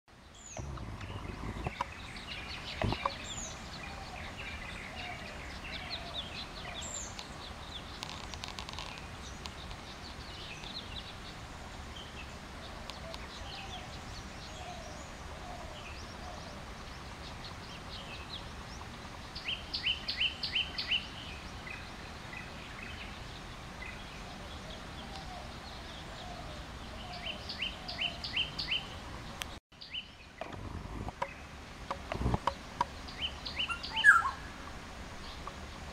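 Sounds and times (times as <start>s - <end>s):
low background noise: 0.1s - 35.9s
songbirds chirping: 0.1s - 35.9s.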